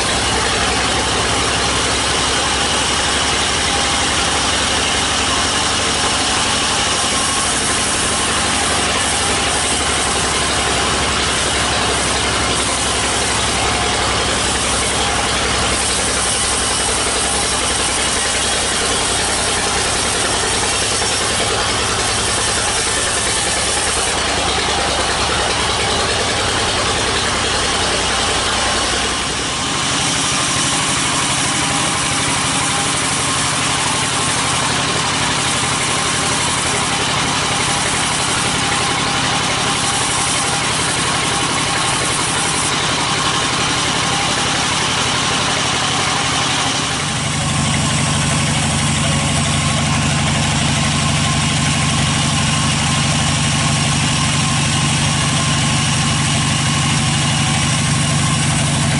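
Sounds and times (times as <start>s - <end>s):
band saw cutting log: 0.0s - 58.9s.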